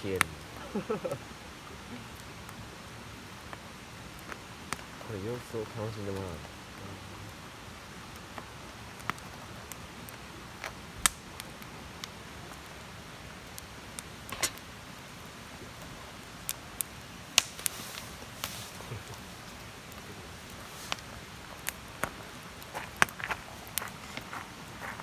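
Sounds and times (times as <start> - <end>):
campfire crackling: 0.0 - 25.0
fire popping: 0.0 - 25.0.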